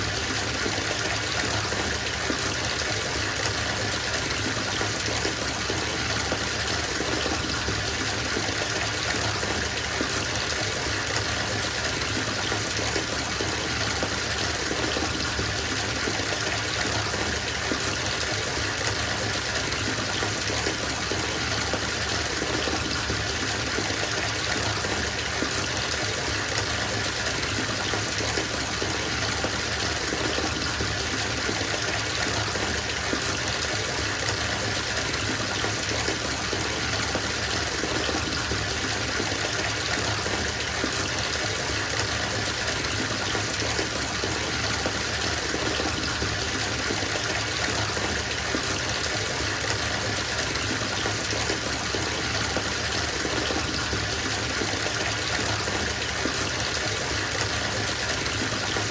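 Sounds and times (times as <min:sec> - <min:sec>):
water gushing into bathtub: 0:00.0 - 0:58.9.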